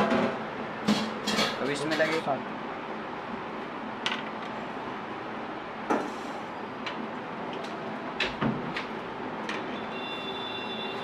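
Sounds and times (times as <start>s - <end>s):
busy street food stall: 0.0s - 11.0s.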